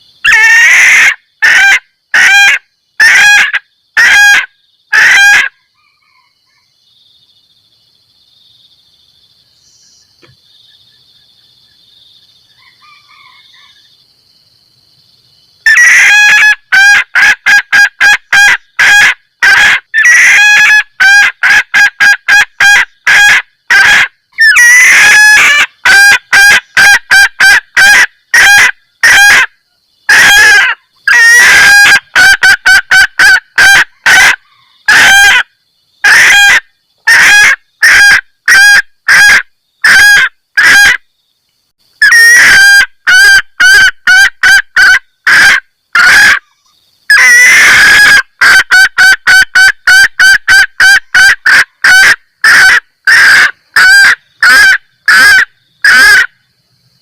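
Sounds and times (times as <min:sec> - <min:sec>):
hen cackling: 0:00.2 - 0:06.6, 0:15.6 - 0:41.0, 0:42.0 - 0:56.4.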